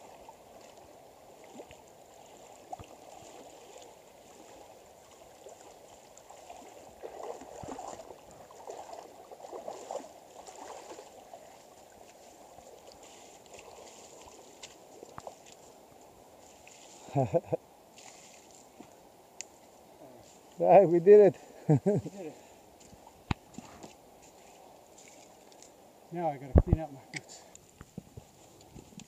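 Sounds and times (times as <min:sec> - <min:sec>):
water splashing around wading person: 0:00.0 - 0:20.6, 0:22.2 - 0:25.8.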